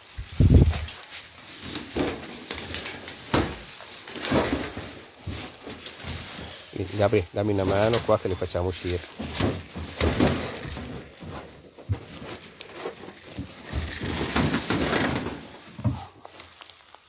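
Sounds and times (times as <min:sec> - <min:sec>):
crunching in dry leaves: 0:00.0 - 0:17.0.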